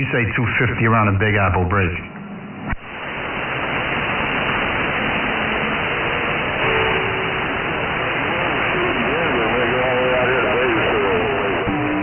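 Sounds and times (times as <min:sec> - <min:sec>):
faint wavering radio tones: 0:00.0 - 0:12.0
radio static hiss: 0:00.0 - 0:12.0.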